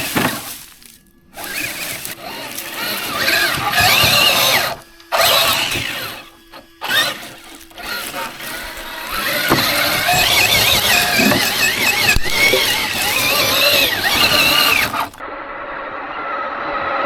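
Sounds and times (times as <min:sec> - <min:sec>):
electric motor whining: 0:00.0 - 0:15.3.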